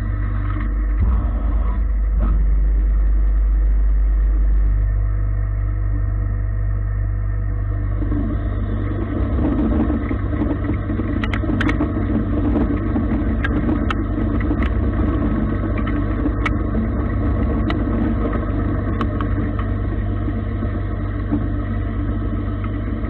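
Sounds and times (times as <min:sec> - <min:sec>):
lathe spindle hum: 0:00.0 - 0:23.0.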